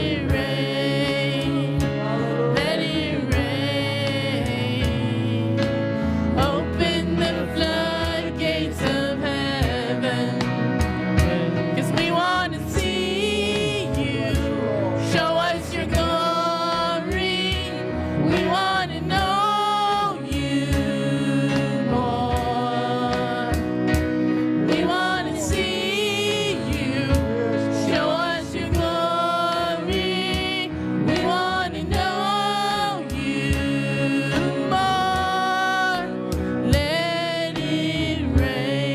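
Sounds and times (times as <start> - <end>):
backing band: 0.0 - 38.9
voices singing: 0.0 - 38.9.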